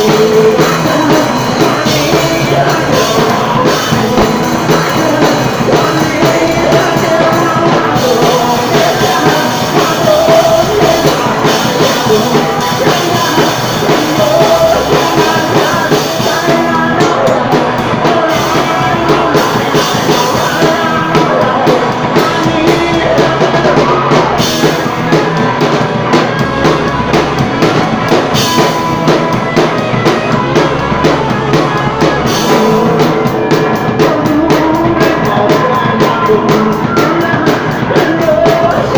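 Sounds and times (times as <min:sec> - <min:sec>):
drum kit: 0:00.0 - 0:38.9
live rock band playing: 0:00.0 - 0:38.9
person singing: 0:00.0 - 0:38.9.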